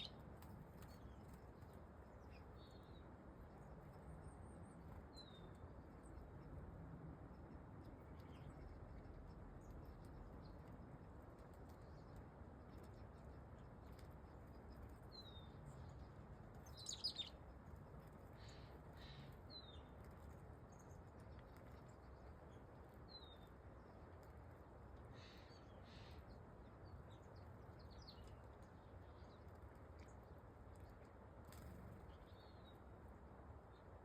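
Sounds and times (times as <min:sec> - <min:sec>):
faint low rumble: 0:00.0 - 0:34.0
songbirds chirping: 0:00.0 - 0:34.0.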